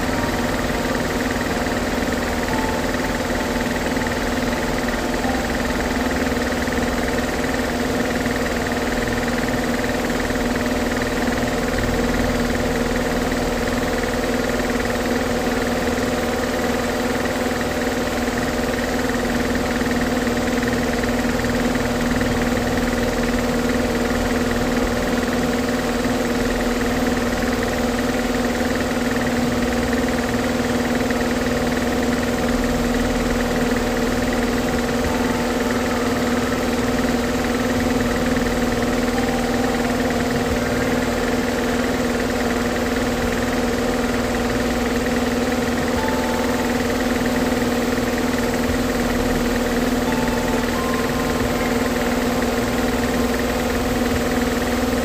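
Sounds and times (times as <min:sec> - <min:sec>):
machine humming: 0:00.0 - 0:55.0.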